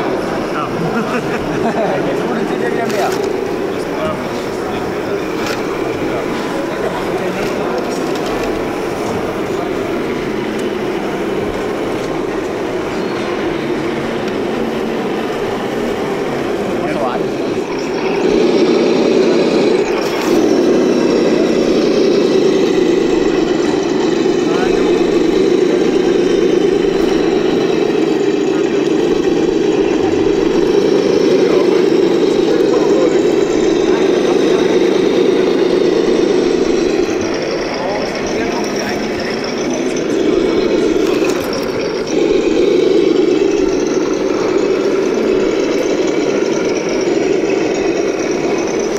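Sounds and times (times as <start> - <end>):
crowded hall din: 0.0 - 48.9
low hum: 0.0 - 48.9.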